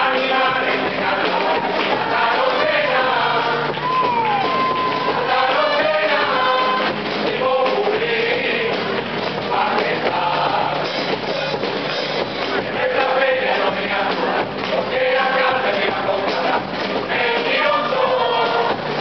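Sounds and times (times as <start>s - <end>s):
group singing in chorus: 0.0s - 11.7s, 12.4s - 19.0s
guitars: 0.0s - 19.0s.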